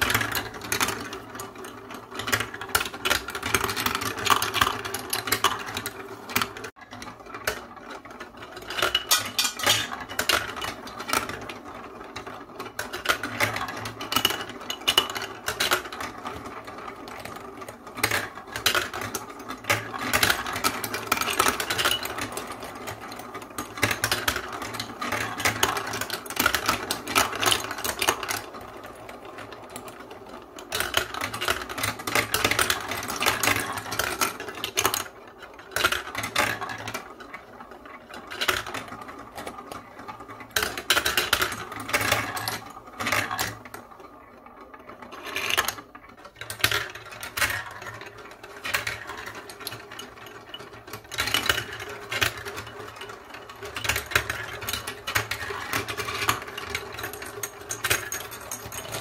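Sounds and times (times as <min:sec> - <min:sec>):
plastic balls rattling down marble run: 0:00.0 - 0:59.0.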